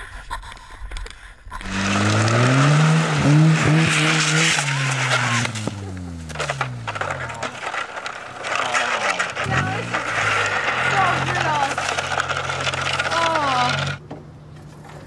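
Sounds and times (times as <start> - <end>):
car engine and tyre noise: 1.5 - 15.0.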